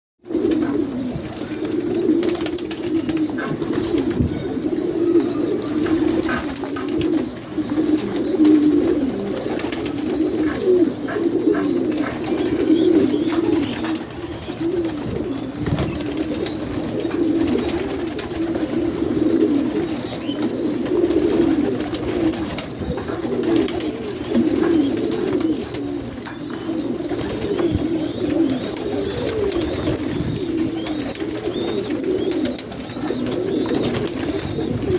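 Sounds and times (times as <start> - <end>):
pigeons cooing: 0.2 - 34.9.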